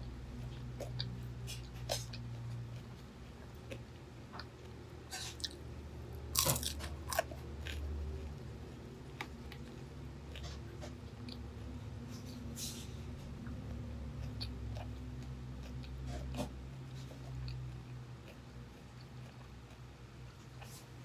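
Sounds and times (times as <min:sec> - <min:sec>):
chewing crispy fried food: 0:00.0 - 0:21.0.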